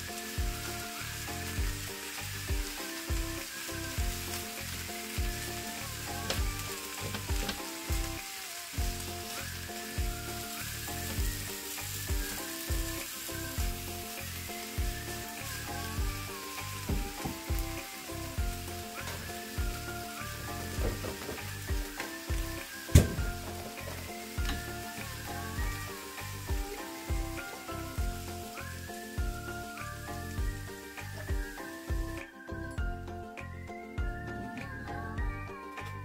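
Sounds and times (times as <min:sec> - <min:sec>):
background music with steady beat: 0:00.0 - 0:36.0
food sizzling in frying pan: 0:00.0 - 0:36.0.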